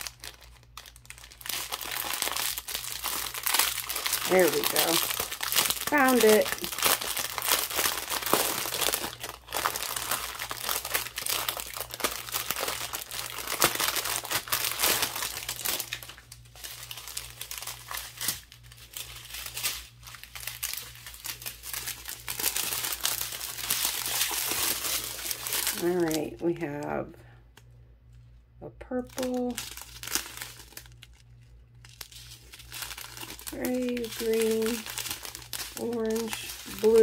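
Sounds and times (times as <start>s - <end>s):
plastic packaging crinkling: 0.0s - 37.0s.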